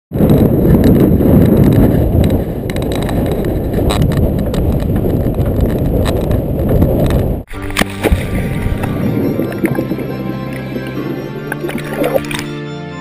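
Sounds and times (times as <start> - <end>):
vehicle rumbling on dirt track: 0.1 - 12.3.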